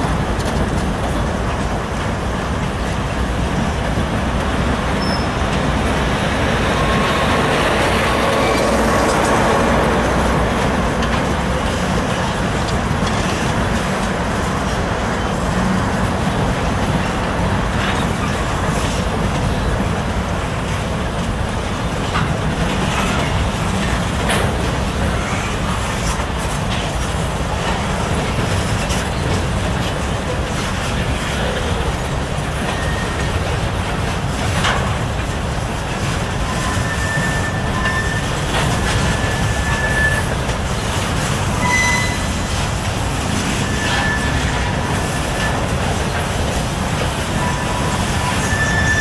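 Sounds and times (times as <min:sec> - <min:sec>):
diesel locomotive passing: 0:00.0 - 0:49.0
freight train rumbling past: 0:00.0 - 0:49.0
wheels clicking over rails: 0:00.0 - 0:49.0.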